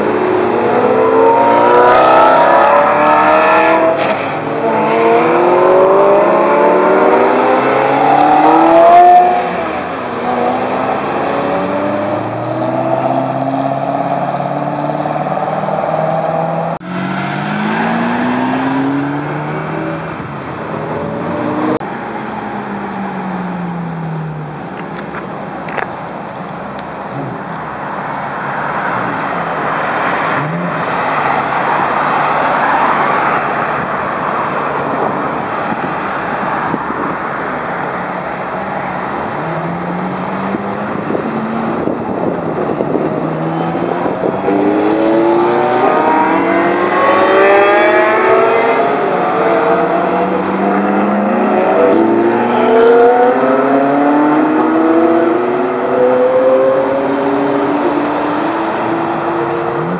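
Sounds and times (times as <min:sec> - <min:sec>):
cars accelerating hard: 0:00.0 - 0:24.7, 0:27.1 - 0:59.9
sports cars driving past: 0:00.0 - 0:24.9, 0:27.1 - 0:59.9
road noise: 0:00.0 - 0:59.9.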